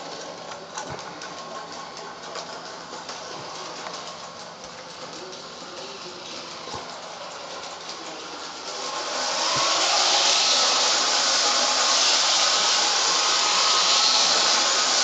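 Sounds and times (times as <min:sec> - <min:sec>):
model steam locomotive hissing: 0:00.0 - 0:15.0.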